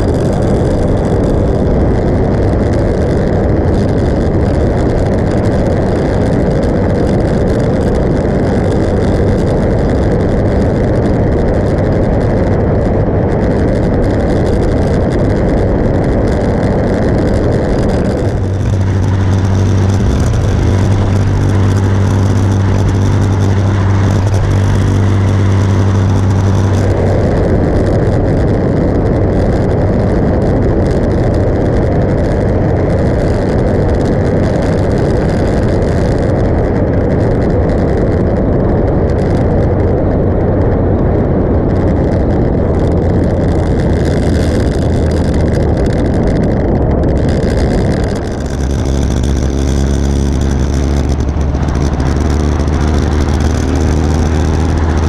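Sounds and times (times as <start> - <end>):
motorcycle engine running: 0.0 - 55.0
wind rush over microphone: 0.0 - 55.0.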